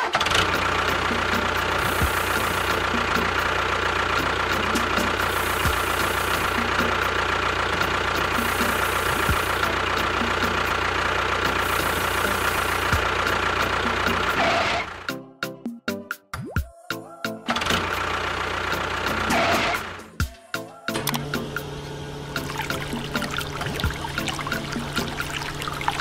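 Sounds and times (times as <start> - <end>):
engine running steadily: 0.0 - 15.1, 17.5 - 20.3, 21.0 - 26.0.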